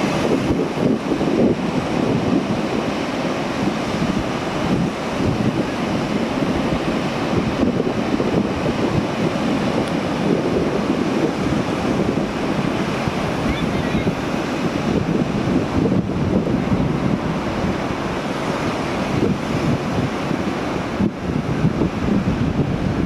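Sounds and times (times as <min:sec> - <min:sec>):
sea waves rushing: 0:00.0 - 0:23.0
wind buffeting microphone: 0:00.0 - 0:23.0.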